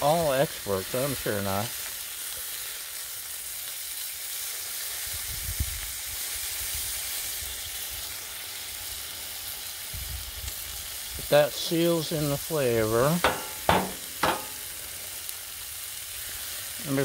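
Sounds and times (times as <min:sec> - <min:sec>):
steaks sizzling on griddle: 0:00.0 - 0:17.0.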